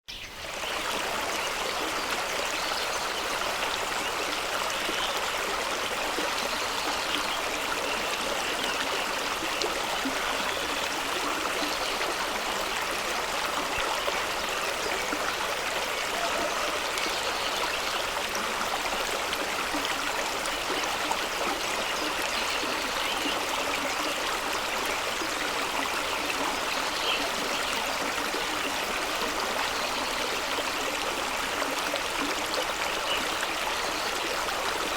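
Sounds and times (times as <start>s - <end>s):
stream rushing over rocks: 0.4s - 34.9s.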